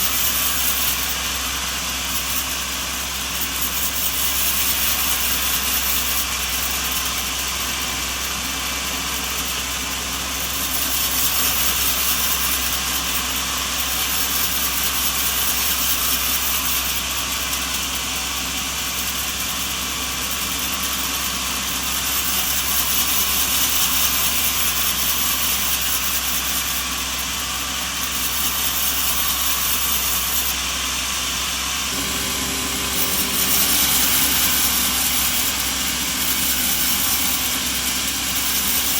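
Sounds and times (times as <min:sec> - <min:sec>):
machinery noise with hiss: 0:00.0 - 0:07.7, 0:10.6 - 0:38.9.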